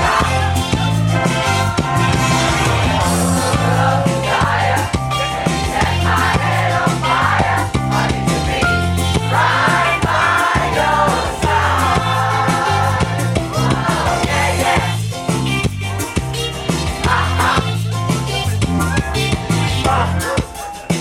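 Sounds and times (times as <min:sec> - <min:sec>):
music with singing voices: 0:00.0 - 0:21.0.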